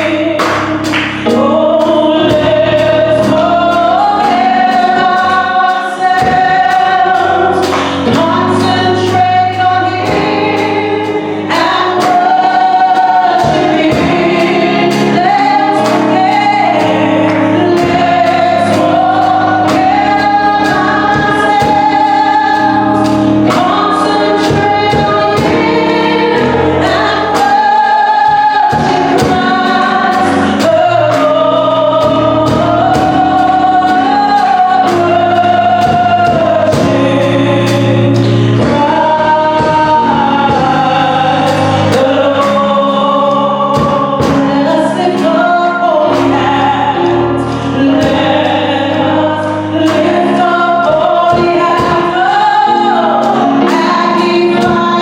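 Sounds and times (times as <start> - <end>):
band accompaniment: 0.0 - 55.0
group singing gospel music: 0.0 - 55.0.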